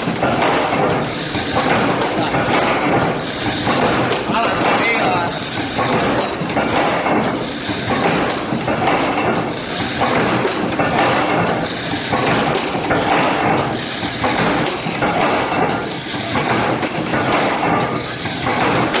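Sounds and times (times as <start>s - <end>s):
wire machine clanking and clinking: 0.0s - 19.0s.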